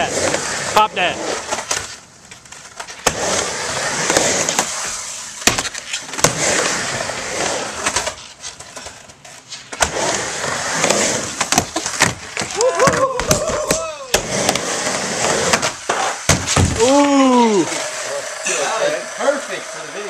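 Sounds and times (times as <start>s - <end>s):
skateboard wheels rolling on wood: 0.0s - 20.0s.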